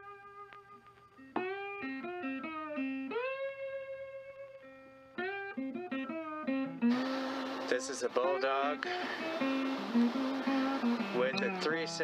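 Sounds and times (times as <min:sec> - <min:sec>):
guitar playing slow notes: 0:00.0 - 0:12.0.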